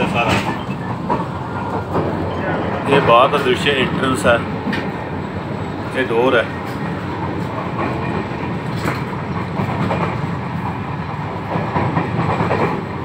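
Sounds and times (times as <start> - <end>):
train carriage rumbling and rattling: 0.0 - 13.0.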